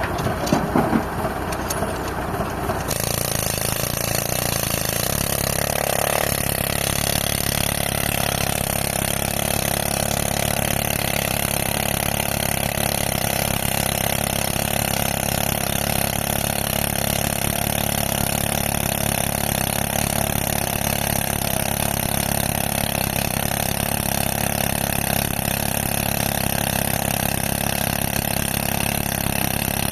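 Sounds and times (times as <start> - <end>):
pneumatic rock drill hammering: 0.0 - 29.9
tractor engine running: 0.0 - 29.9.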